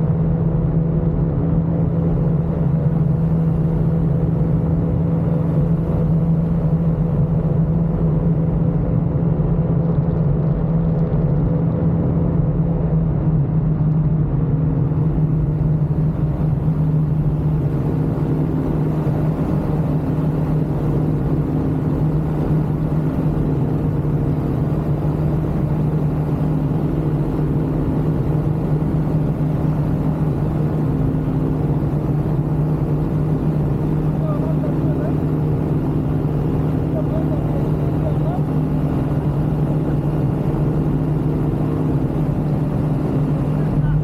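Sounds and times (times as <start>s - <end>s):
aircraft engine droning: 0.0s - 44.0s.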